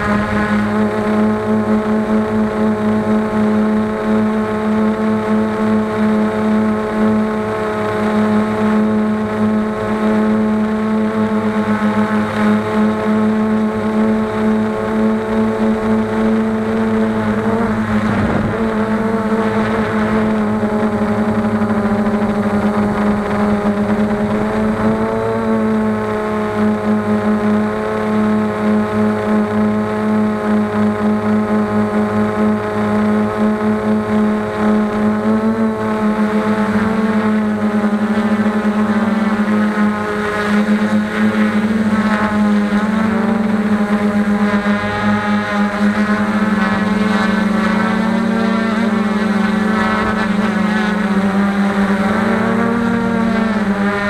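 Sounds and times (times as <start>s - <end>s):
drone motors buzzing: 0.0s - 54.0s.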